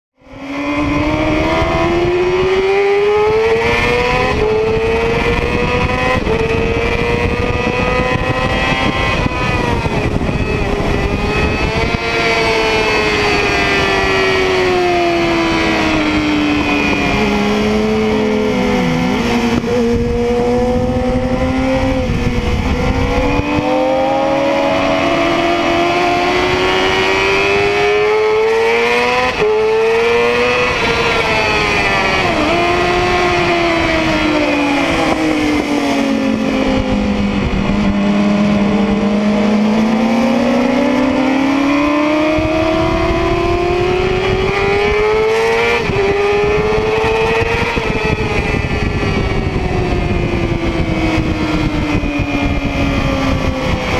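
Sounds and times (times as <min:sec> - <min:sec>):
motorcycle engine revving: 0:00.1 - 0:53.9
wind rush on microphone: 0:00.2 - 0:53.9.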